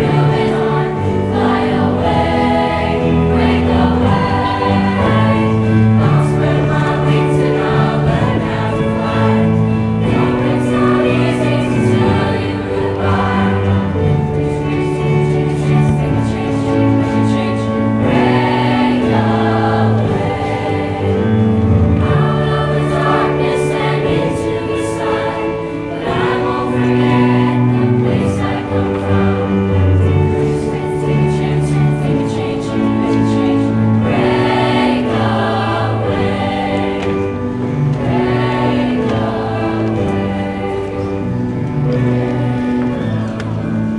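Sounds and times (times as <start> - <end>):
choir singing held chords: 0.0 - 43.9.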